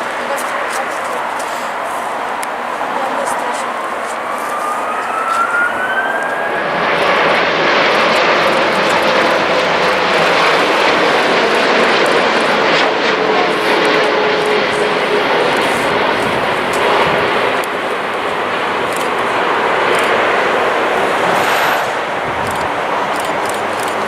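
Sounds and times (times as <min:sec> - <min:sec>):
jet airliner engines passing: 0:00.0 - 0:24.0.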